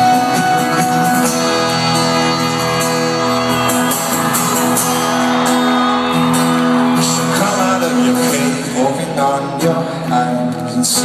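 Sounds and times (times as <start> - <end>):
live folk-rock band playing: 0.0 - 11.0.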